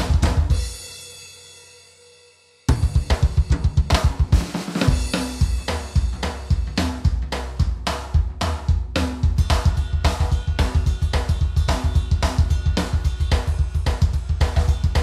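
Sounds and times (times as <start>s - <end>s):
music with fast drum beat: 0.0s - 15.0s.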